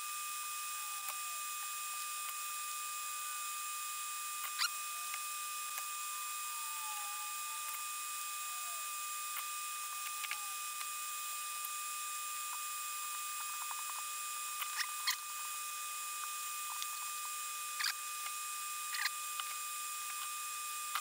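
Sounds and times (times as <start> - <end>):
small extraction fan whine: 0.0 - 21.0.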